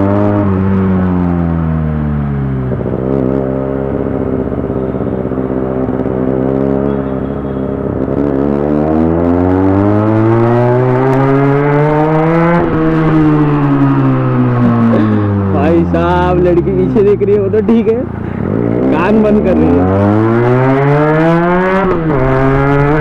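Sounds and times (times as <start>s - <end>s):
motorcycle with loud exhaust: 0.0s - 23.0s.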